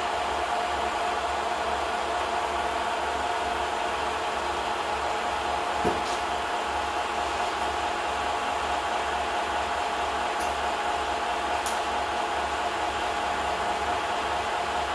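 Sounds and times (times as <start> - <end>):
film projector whirring: 0.0 - 14.9.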